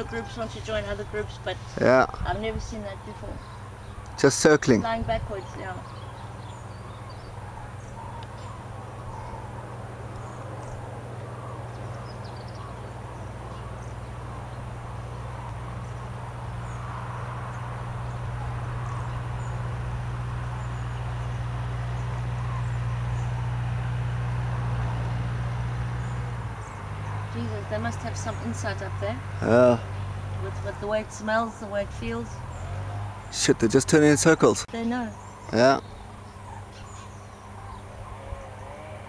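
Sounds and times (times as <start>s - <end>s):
distant crane calls: 0.0s - 39.0s
steady low hum: 0.0s - 39.0s.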